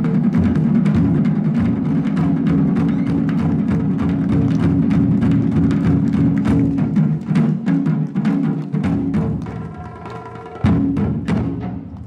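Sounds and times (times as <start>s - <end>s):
taiko drums playing fast strokes: 0.0s - 12.0s.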